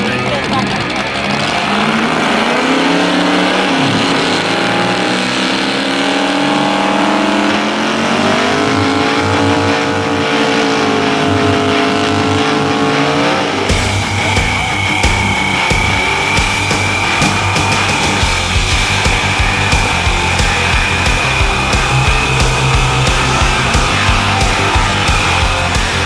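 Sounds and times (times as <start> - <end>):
car engine revving high: 0.0 - 26.0
spinning tyres hissing: 0.0 - 26.0.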